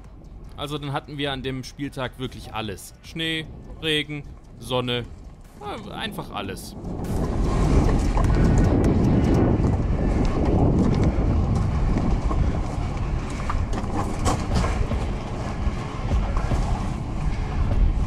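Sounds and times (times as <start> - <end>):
wind buffeting microphone: 2.0 - 18.0.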